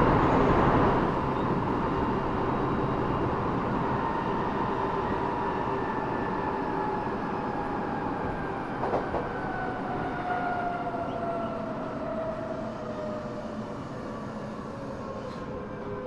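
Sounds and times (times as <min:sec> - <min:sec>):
train rolling noise: 0:00.0 - 0:16.0.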